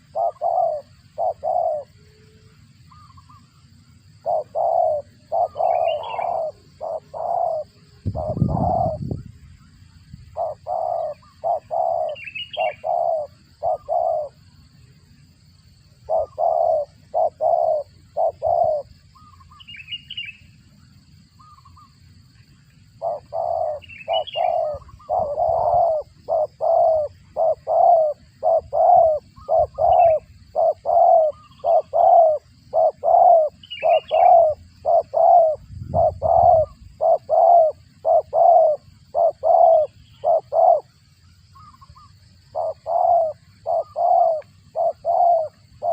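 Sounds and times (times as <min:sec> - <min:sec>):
dove cooing: 0:00.0 - 0:09.2, 0:10.4 - 0:14.4, 0:15.9 - 0:20.3, 0:23.0 - 0:41.0, 0:41.6 - 0:45.9
small birds chirping: 0:00.0 - 0:45.9.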